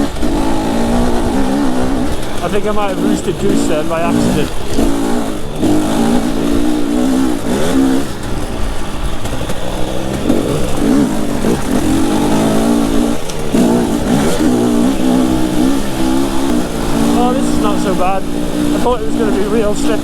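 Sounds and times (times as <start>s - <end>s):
dirt bike engine revving: 0.0s - 20.0s
steady rushing noise: 0.0s - 20.0s.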